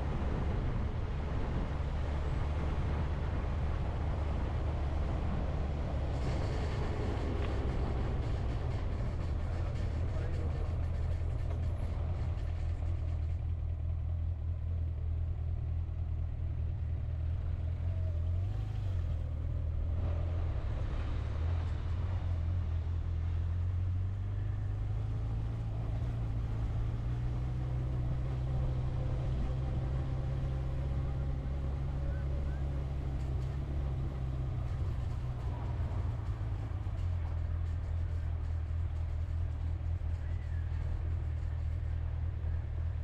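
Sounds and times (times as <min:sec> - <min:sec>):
vehicle engine and road drone: 0:00.0 - 0:43.0.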